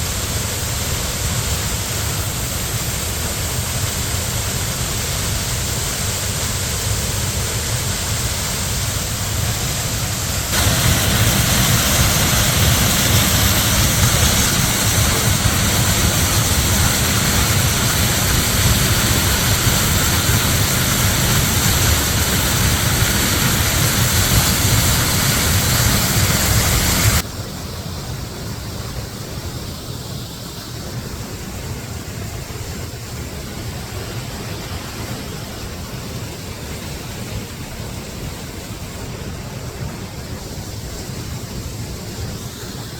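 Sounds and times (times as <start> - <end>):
waterfall and creek water rushing: 0.0 - 42.9.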